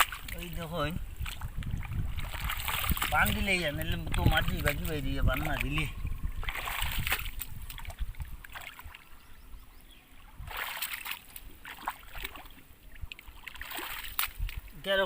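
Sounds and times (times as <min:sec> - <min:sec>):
muddy water splashing: 0:00.0 - 0:09.4, 0:10.0 - 0:15.0.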